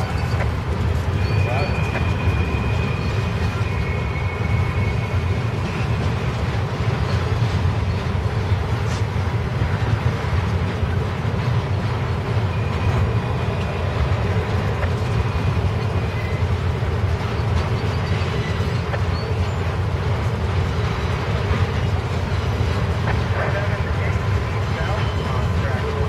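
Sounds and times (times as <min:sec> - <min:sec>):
freight train rumbling and rattling: 0:00.0 - 0:26.0.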